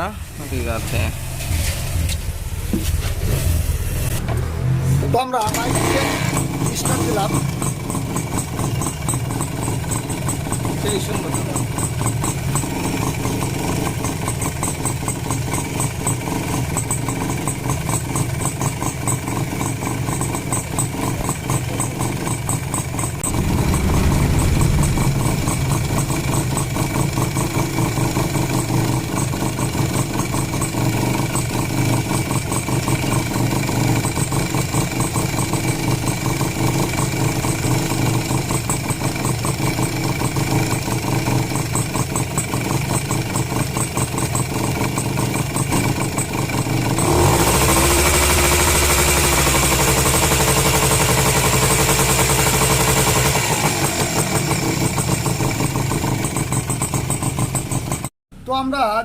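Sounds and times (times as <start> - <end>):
motorcycle engine idling: 5.1 - 58.1.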